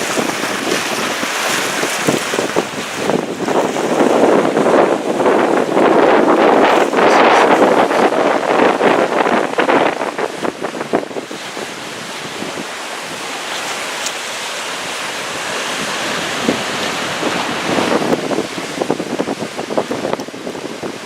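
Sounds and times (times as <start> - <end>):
wind buffeting microphone: 0.0 - 14.1, 14.7 - 21.0.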